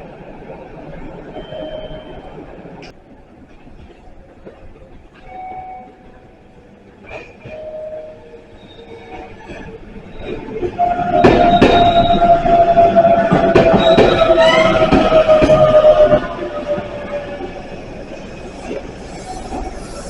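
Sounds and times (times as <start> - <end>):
train pulling into platform: 0.0 - 20.0
wheels clacking over rail joints: 2.8 - 20.0.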